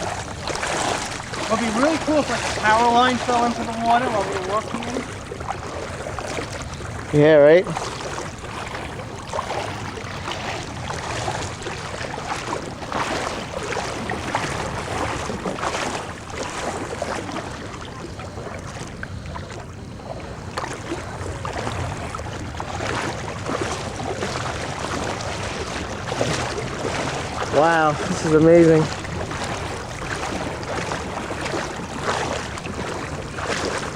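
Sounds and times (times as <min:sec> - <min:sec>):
wading through water: 0:00.0 - 0:33.9
wind on microphone: 0:00.0 - 0:33.9.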